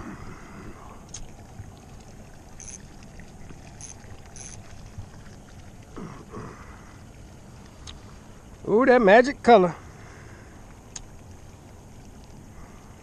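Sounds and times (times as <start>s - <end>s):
wind and water hiss: 0.0s - 13.0s.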